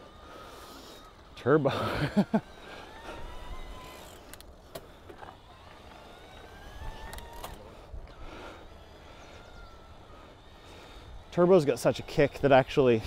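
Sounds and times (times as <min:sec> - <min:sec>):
bike clicking: 0:00.0 - 0:13.0
electric bike motor whining: 0:00.0 - 0:13.0.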